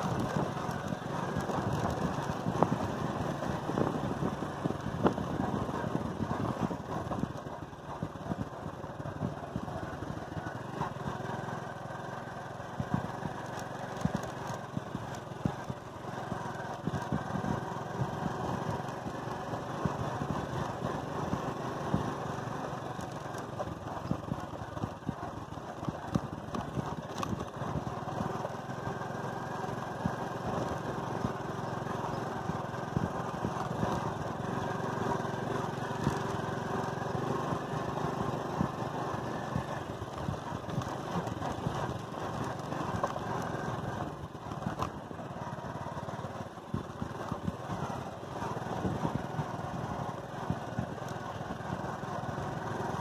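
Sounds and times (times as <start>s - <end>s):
knocks and jolts from bumpy ride: 0.0s - 53.0s
motorcycle engine running: 0.0s - 53.0s.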